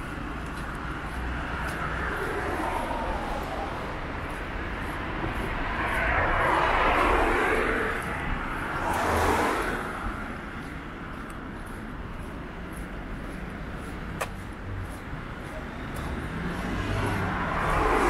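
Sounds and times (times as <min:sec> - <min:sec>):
cars passing close by: 0:00.0 - 0:18.0
low hum of traffic: 0:00.0 - 0:18.0.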